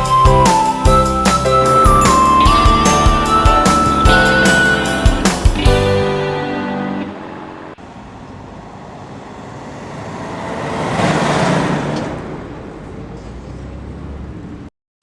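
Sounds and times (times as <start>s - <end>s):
road noise: 0.0s - 14.7s
vehicle engine rumble: 0.1s - 14.7s.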